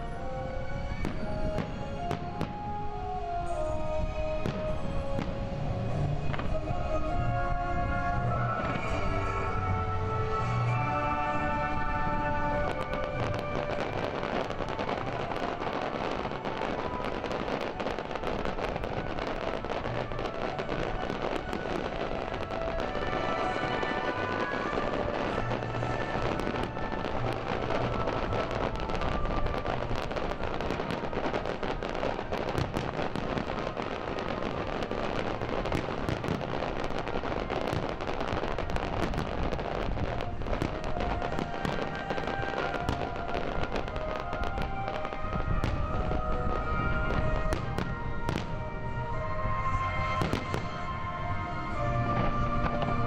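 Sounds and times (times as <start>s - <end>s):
fireworks crackling and popping: 0.0s - 53.0s
music with held notes: 0.0s - 53.0s.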